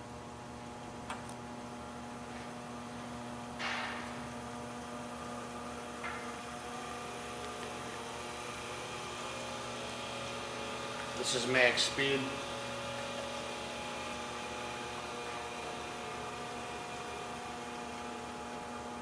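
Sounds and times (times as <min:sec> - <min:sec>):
electric drive whine: 0:00.0 - 0:19.0.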